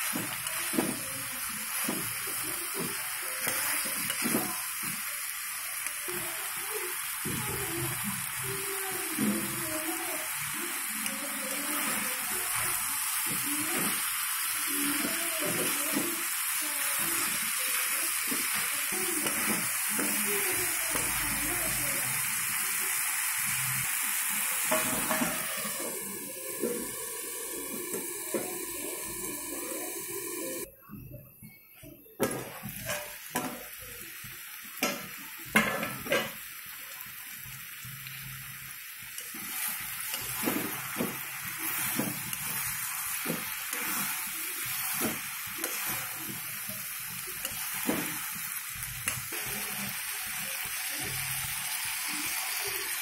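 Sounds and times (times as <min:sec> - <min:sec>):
chicken sizzling in oil: 0:00.0 - 0:30.7, 0:32.3 - 0:53.0.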